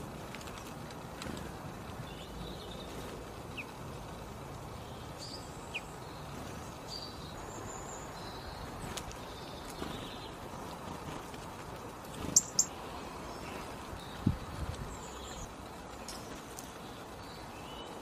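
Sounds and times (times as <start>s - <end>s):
low background noise: 0.0s - 18.0s
songbirds chirping: 0.0s - 18.0s.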